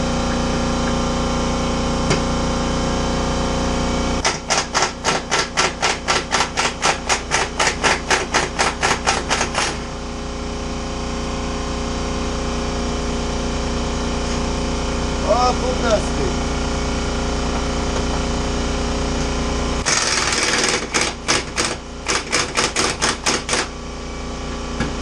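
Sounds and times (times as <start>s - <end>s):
air compressor running: 0.0s - 25.0s.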